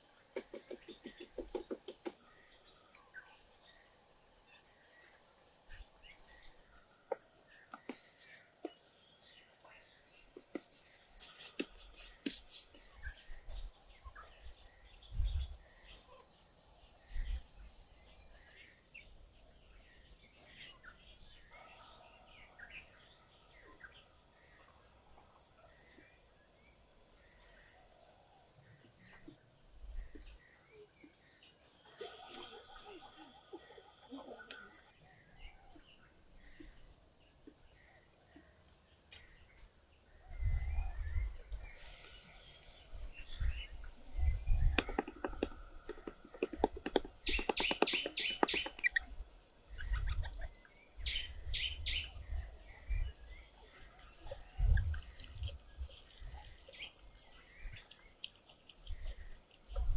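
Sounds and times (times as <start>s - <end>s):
insects trilling: 0.0s - 59.9s
pulsing insect call: 0.0s - 59.9s.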